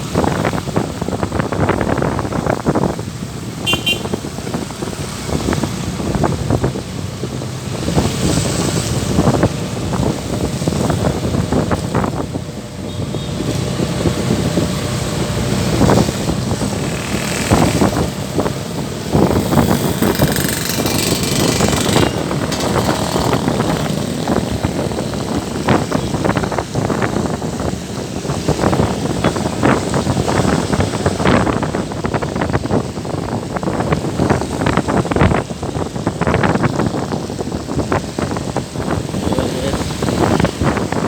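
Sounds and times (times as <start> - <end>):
vehicle engines: 0.0 - 41.0.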